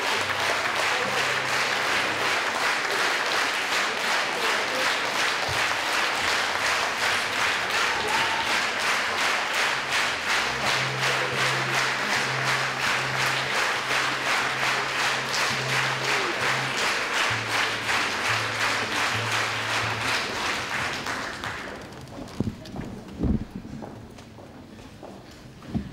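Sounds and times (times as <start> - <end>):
audience applauding: 0.0 - 23.4.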